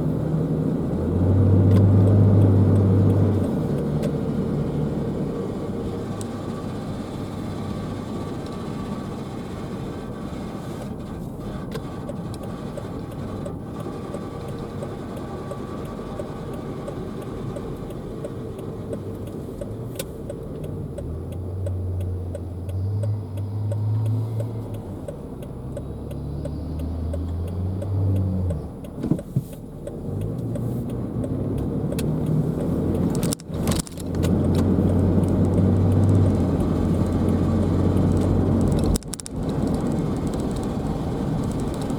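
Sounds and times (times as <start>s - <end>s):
car road and engine noise: 0.0s - 41.9s.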